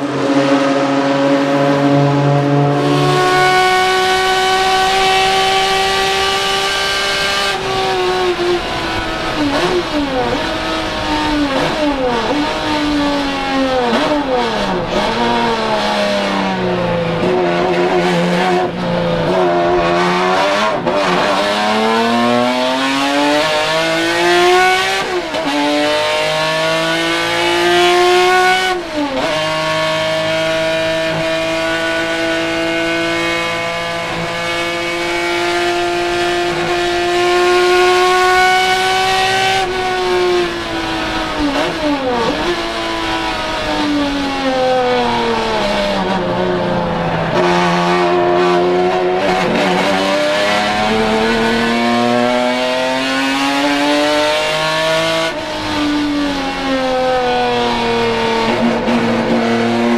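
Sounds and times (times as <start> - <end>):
racing car engine at high revs: 0.0 - 59.9.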